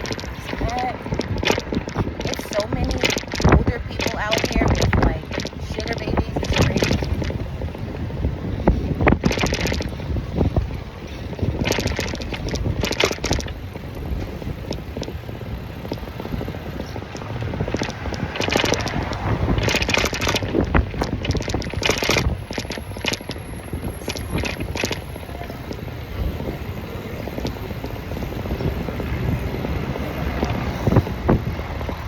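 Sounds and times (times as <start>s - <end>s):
street traffic rumble: 0.0s - 32.0s
wind buffeting microphone: 0.0s - 32.0s.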